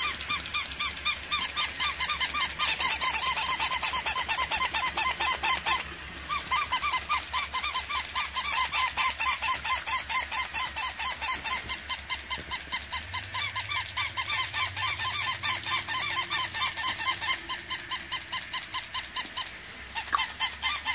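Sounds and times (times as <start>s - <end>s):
toy electronic yaps: 0.0s - 20.9s.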